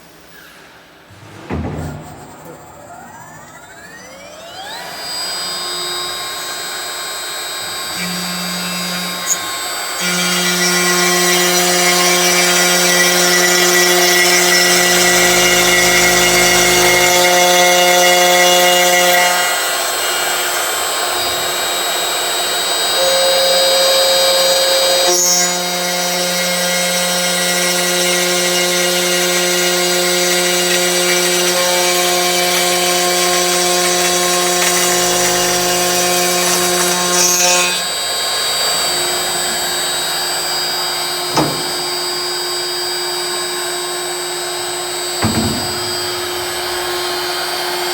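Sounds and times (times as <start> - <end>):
cnc machine whining: 0.0 - 47.9
machining noise: 1.2 - 42.2.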